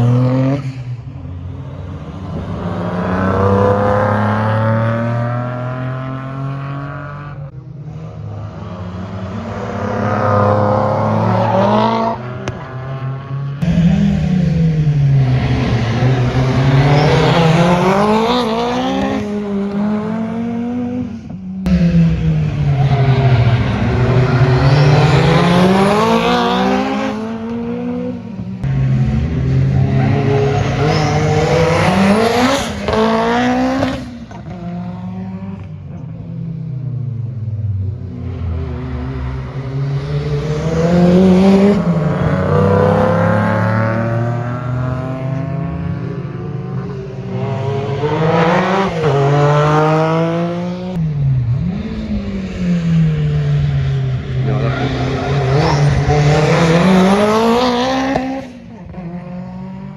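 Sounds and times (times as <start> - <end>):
race cars passing by: 0.0 - 59.9.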